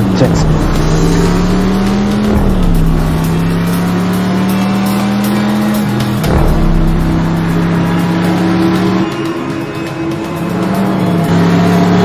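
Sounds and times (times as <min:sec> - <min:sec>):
car engine running at speed: 0:00.0 - 0:12.0.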